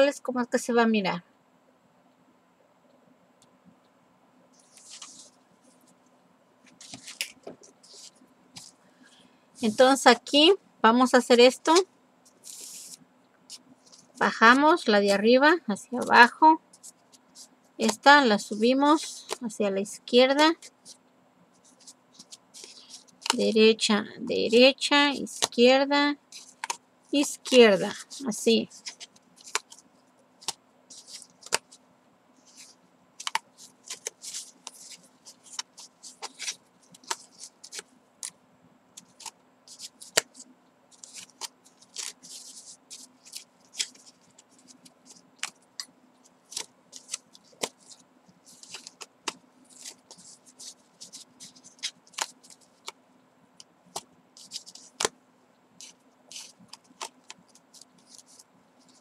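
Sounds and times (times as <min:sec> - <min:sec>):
faint steady hum: 0:00.0 - 0:59.0
yarn rustling on cardboard: 0:04.5 - 0:06.0, 0:06.6 - 0:10.2, 0:11.6 - 0:19.5, 0:20.4 - 0:23.6, 0:24.4 - 0:31.8, 0:32.4 - 0:38.4, 0:39.0 - 0:53.0, 0:53.8 - 0:59.0.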